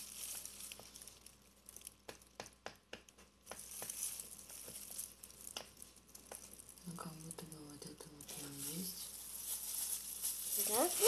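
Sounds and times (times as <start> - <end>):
packaging rustling: 0.0 - 2.4, 3.3 - 11.0.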